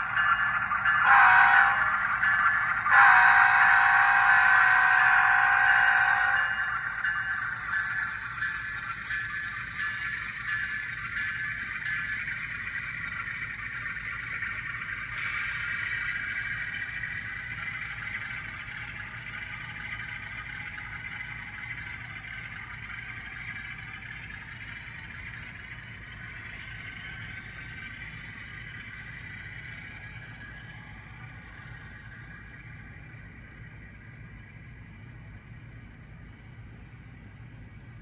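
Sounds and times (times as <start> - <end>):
model train wheels whirring on rail: 0.0 - 38.0.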